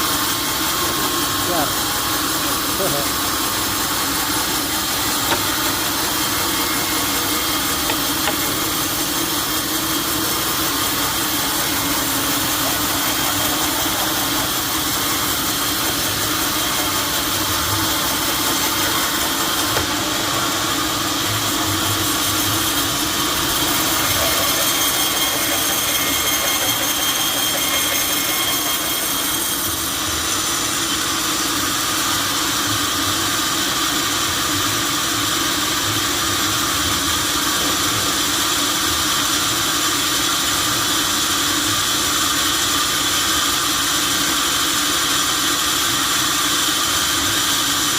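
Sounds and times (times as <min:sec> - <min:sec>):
sawmill machinery running: 0:00.0 - 0:47.9.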